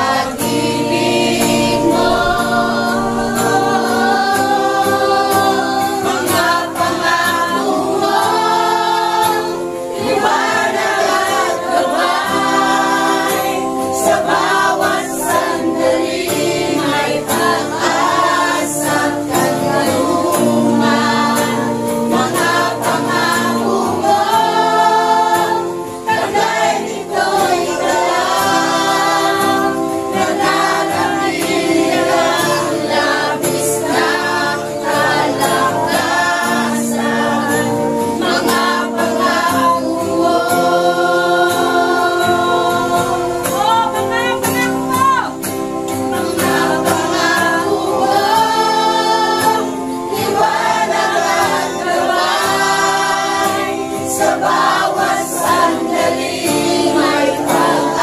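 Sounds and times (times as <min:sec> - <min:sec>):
congregation singing with music: 0:00.0 - 0:58.0.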